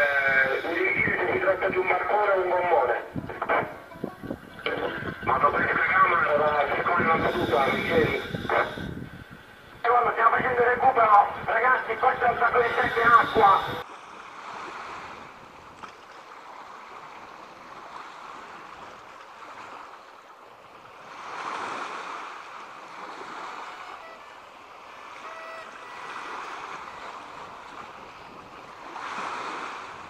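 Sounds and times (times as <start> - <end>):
sea waves washing in: 0.0 - 30.0.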